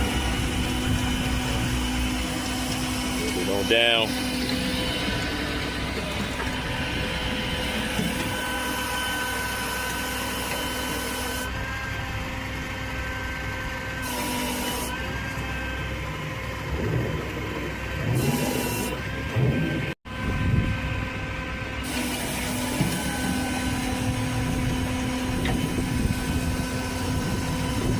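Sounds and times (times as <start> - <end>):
tow truck hydraulic whine: 0.0 - 27.9.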